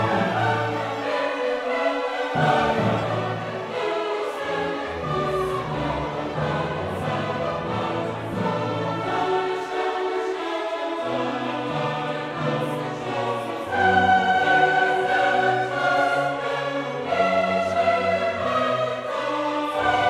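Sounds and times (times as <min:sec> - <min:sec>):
choir with orchestra: 0:00.0 - 0:20.0.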